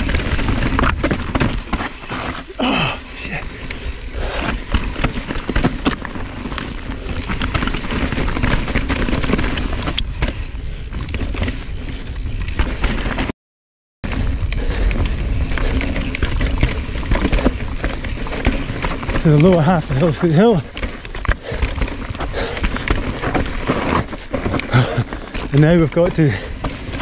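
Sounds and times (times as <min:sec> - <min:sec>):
bike clattering over rocks: 0:00.0 - 0:11.7, 0:14.1 - 0:27.0.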